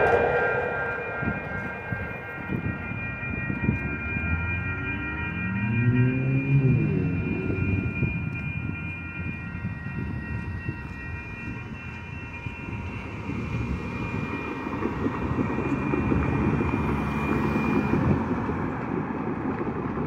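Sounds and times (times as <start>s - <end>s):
crossing signal tones: 0.0s - 18.2s
road traffic rumble: 0.0s - 20.0s.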